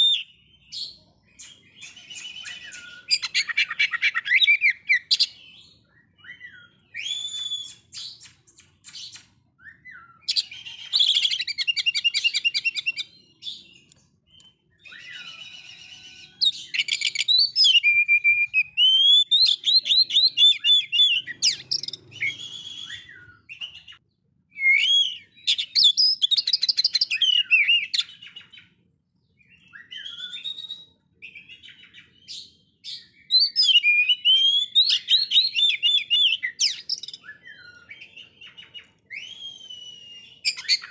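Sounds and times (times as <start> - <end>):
bird singing whistled notes and trills: 0.0 - 40.9.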